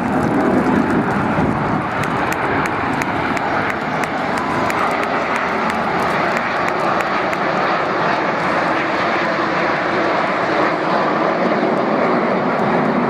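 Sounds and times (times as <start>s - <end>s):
military aircraft flying over: 0.0s - 13.0s.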